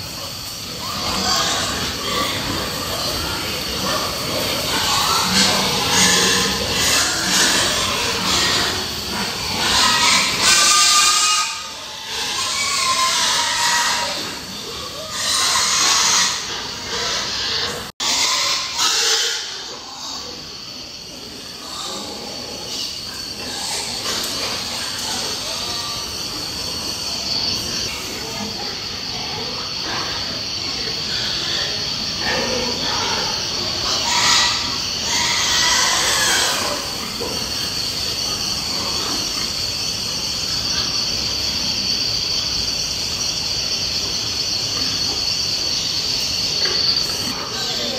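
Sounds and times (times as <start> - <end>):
pigs squealing: 0.0 - 47.9.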